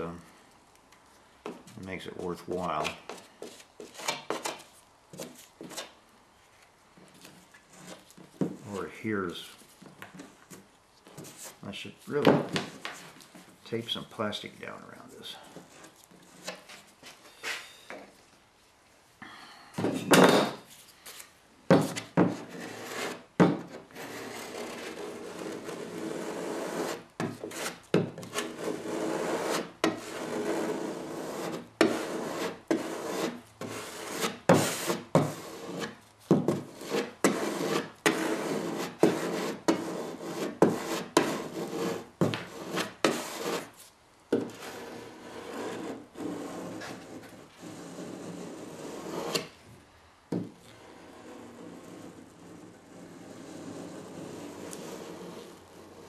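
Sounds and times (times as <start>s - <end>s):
putty knife scraping compound: 1.5s - 6.0s, 7.2s - 13.3s, 15.3s - 17.8s, 21.7s - 49.6s, 50.6s - 56.0s.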